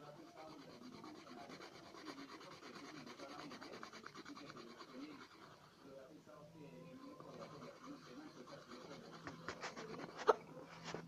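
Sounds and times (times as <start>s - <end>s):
pencil scratching on paper: 0.0s - 6.0s, 6.9s - 11.0s.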